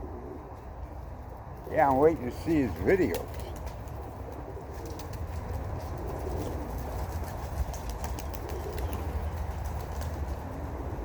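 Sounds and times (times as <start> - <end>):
pigeons cooing: 0.0 - 1.0, 1.7 - 11.0.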